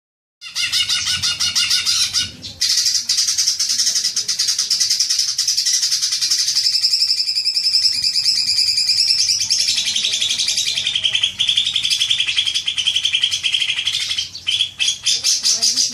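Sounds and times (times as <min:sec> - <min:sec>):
bird singing rapid chattering notes: 0:00.4 - 0:15.9.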